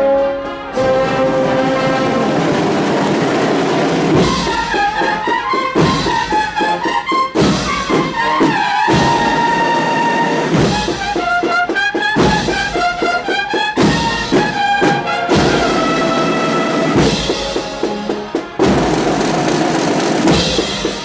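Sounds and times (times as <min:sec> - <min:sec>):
brass band playing march: 0:00.0 - 0:21.0
cornets and trombones: 0:00.0 - 0:21.0
marching drums: 0:00.4 - 0:21.0.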